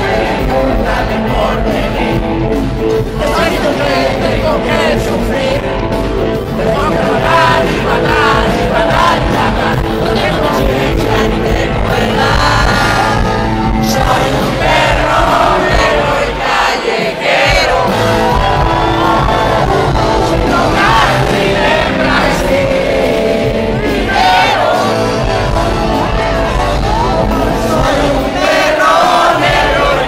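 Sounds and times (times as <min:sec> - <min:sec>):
crowd singing along: 0:00.0 - 0:30.0
live rock band with vocals: 0:00.0 - 0:30.0
crowd shouting: 0:03.0 - 0:30.0.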